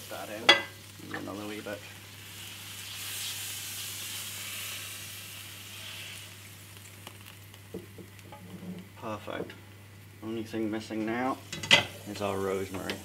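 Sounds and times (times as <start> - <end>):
frying pan sizzling: 0.0 - 13.0.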